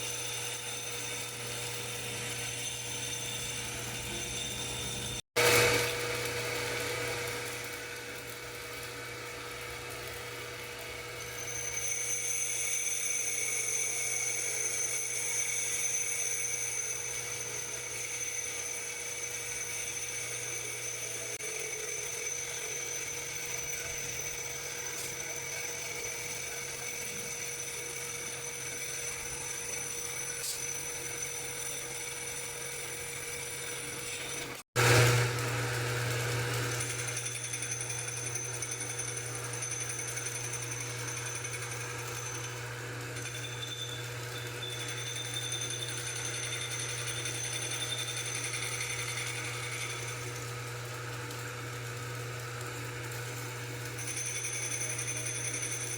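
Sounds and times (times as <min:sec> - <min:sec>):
lathe motor hum: 0:00.0 - 0:55.9.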